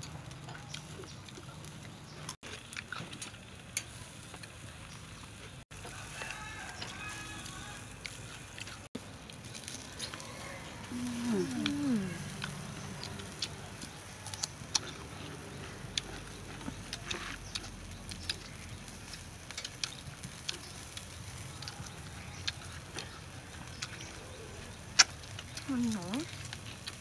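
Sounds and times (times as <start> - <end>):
people chewing and lip smacking: 0.0 - 27.0.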